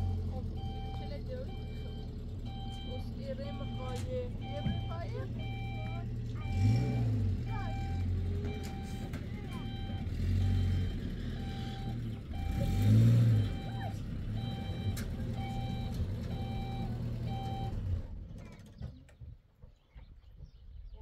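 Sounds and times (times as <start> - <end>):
reversing alarm beeping: 0.0 - 17.9
vehicle engine running: 0.0 - 19.2.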